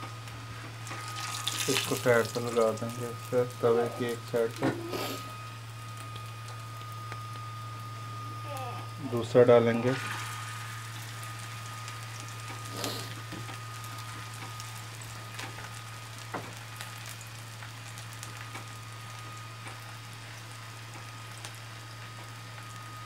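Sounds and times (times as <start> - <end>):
low hum: 0.0 - 21.6
patty sizzling in oil: 0.0 - 23.0.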